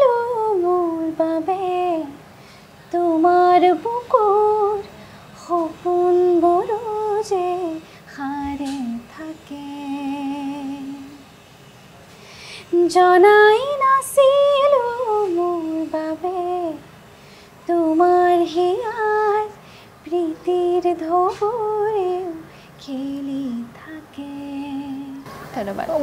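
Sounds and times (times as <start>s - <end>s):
woman singing unaccompanied: 0.0s - 2.3s, 2.9s - 11.3s, 12.6s - 17.0s, 17.6s - 26.0s.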